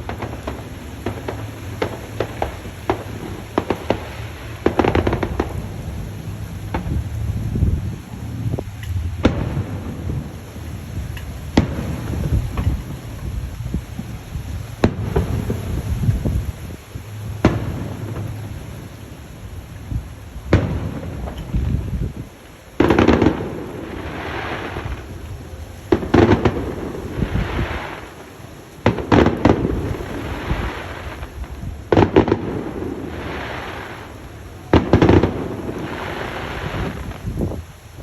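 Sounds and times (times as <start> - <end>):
firework booms: 0.0 - 38.0
firework crackling: 0.0 - 38.0.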